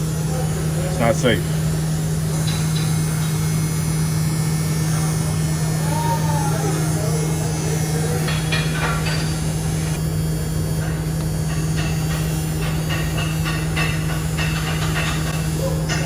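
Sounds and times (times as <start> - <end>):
steady low hum with hiss: 0.0 - 16.0.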